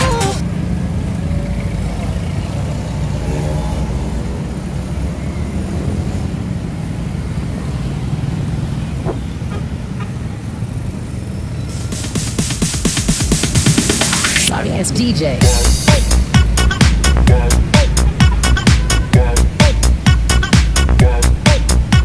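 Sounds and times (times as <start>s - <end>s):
cars and motorbikes passing: 0.0s - 22.0s.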